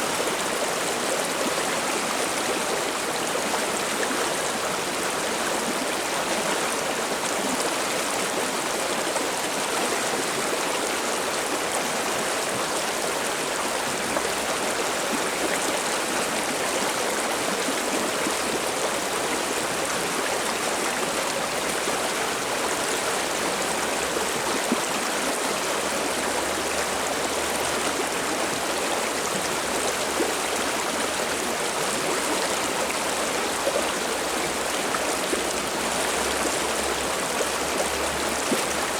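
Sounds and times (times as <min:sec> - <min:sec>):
stream water babbling over rocks: 0:00.0 - 0:38.9.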